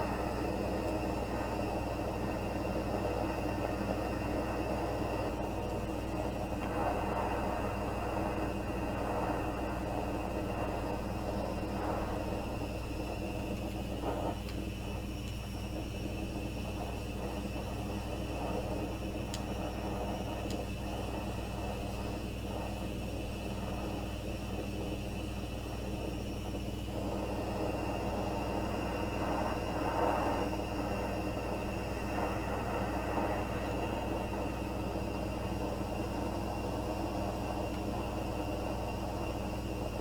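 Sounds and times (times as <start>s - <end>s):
gas flame rushing: 0.0s - 24.9s, 25.8s - 40.0s.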